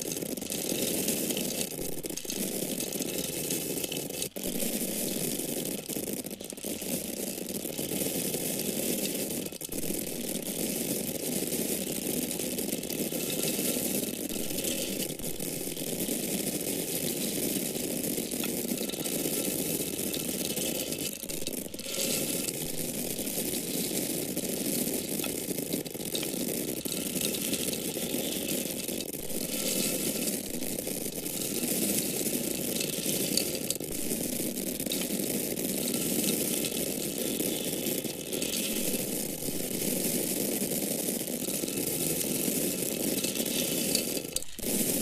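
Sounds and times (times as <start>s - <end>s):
dried grains pouring: 0.0s - 45.0s.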